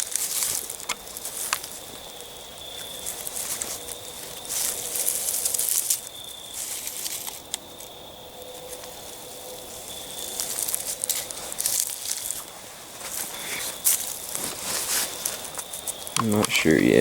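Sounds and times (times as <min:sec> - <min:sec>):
footsteps through dry leaves: 0:00.0 - 0:16.1.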